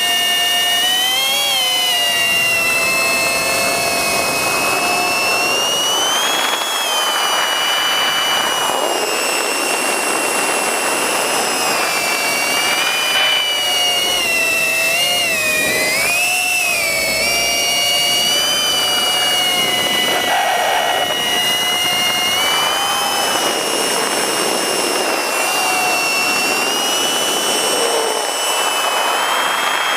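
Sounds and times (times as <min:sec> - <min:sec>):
drone motors and propellers whining: 0:00.0 - 0:29.9.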